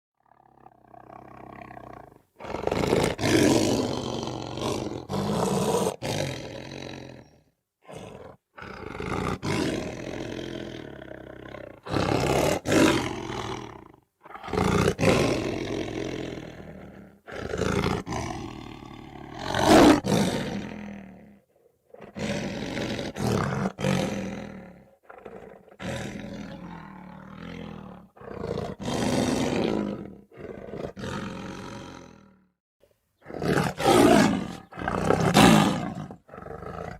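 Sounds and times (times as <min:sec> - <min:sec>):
lion roaring and growling: 0:00.3 - 0:32.5, 0:33.2 - 0:36.9.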